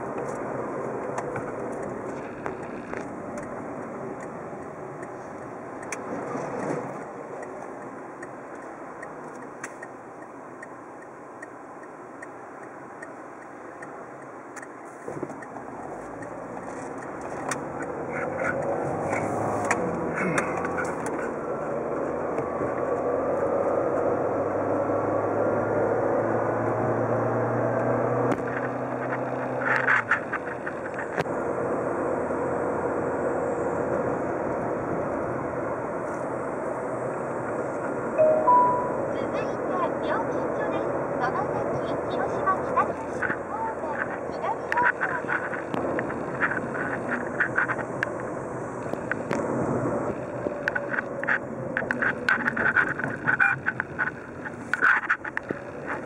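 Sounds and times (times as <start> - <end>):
car engine and tyre hum: 0.0 - 56.0.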